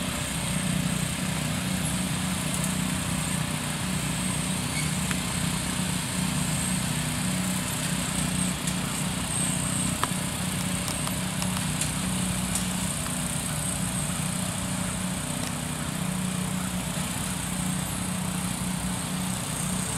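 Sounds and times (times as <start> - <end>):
lawn tractor engine running: 0.0 - 19.9.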